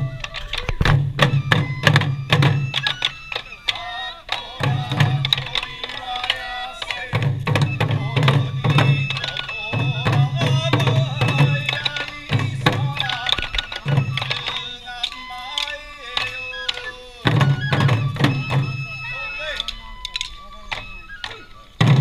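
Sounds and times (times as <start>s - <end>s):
high flute melody: 0.0s - 22.0s
rapid drum beats: 0.0s - 22.0s.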